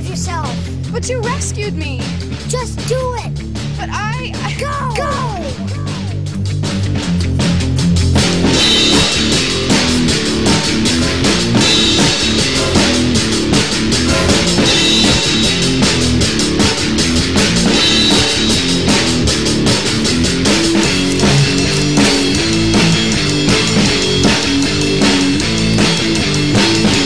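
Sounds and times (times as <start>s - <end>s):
drum kit beat: 0.0s - 27.0s
rock music: 0.0s - 27.0s.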